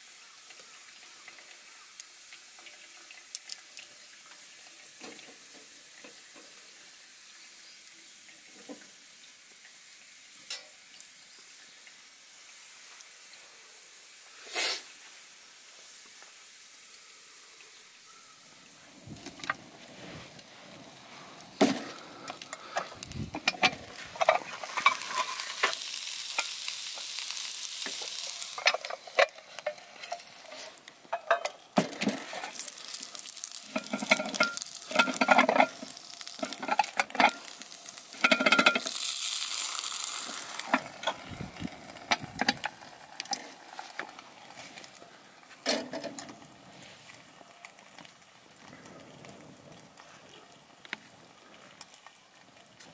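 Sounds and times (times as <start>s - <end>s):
campfire crackling and sizzling: 0.0s - 52.9s.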